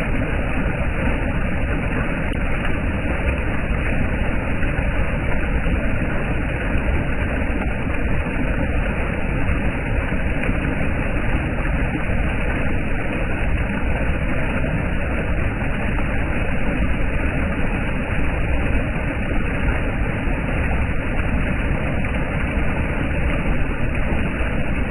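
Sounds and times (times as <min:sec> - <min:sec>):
water rushing over a dam: 0:00.0 - 0:24.9.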